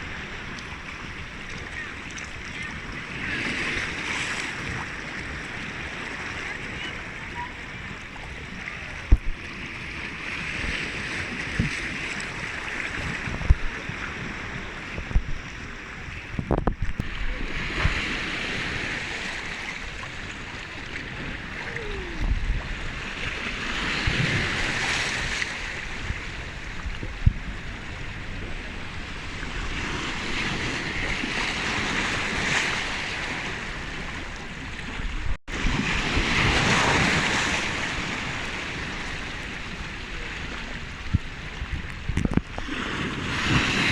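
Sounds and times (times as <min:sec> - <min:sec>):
sea waves washing in: 0:00.0 - 0:43.9
wind on microphone: 0:00.0 - 0:43.9.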